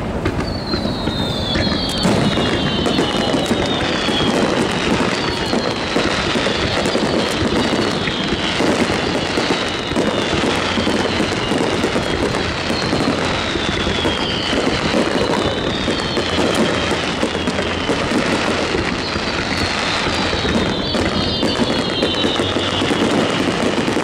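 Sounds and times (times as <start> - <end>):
firework shells bursting: 0.0 - 24.0
falling pitch whistles: 0.4 - 23.9.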